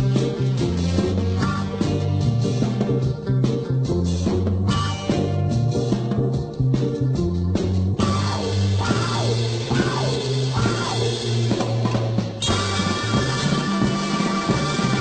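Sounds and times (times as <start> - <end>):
rock music with drums bass guitar: 0.0 - 15.0.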